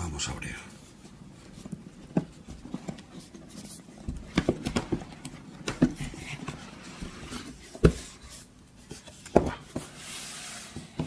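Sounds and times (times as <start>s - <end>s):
cardboard box handled: 1.4s - 11.0s.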